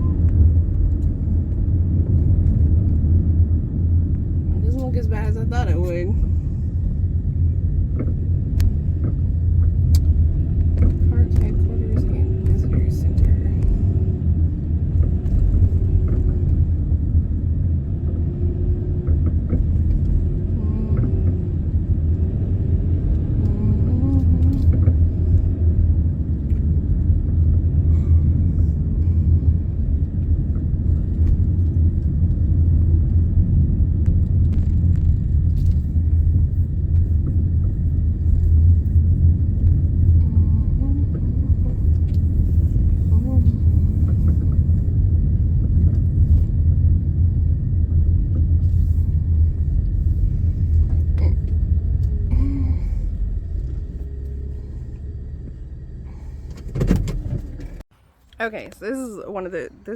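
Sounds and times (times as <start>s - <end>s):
car cabin road and engine noise: 0.0s - 59.9s.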